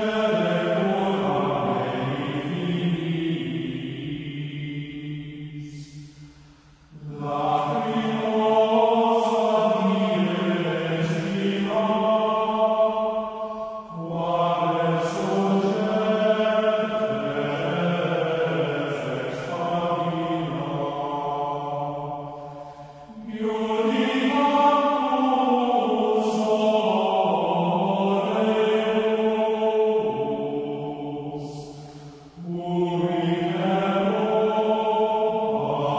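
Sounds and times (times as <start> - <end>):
group of voices chanting: 0.0 - 6.2, 6.9 - 35.9.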